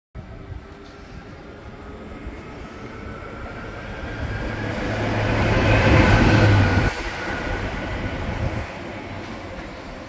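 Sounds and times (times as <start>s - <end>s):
train approaching: 0.2s - 10.0s.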